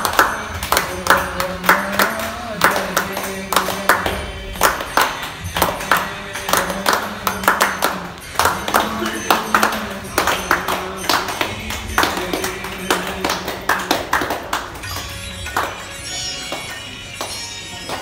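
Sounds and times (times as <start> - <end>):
sharp rhythmic strikes: 0.0 - 18.0.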